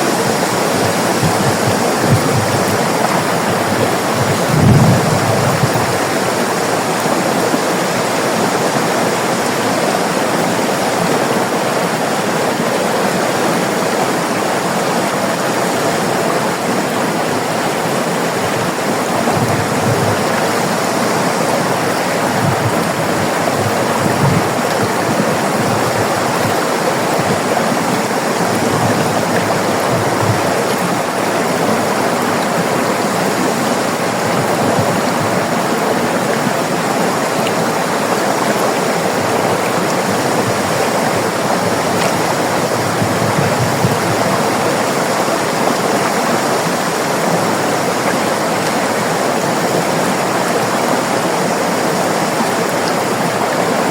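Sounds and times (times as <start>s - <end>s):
river water rushing over rocks: 0.0s - 53.9s.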